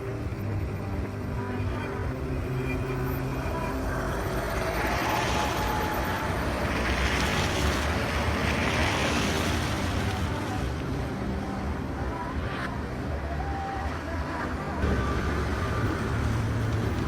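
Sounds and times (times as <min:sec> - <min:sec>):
low engine rumble: 0:00.0 - 0:17.0
passing vehicle: 0:00.0 - 0:17.0.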